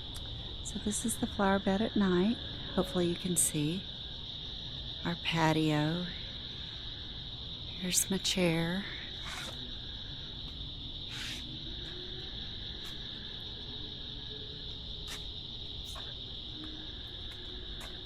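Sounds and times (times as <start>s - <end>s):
crickets trilling: 0.0s - 18.0s
sharp insect call: 0.0s - 18.0s.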